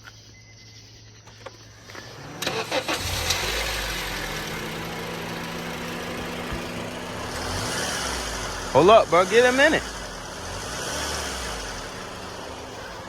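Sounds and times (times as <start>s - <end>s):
car engine cranking and idling: 1.2s - 13.0s.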